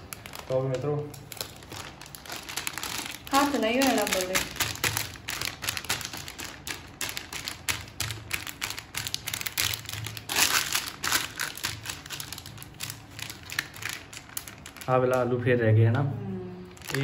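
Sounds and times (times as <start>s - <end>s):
plastic bag crinkling: 0.0s - 15.4s, 16.7s - 17.0s.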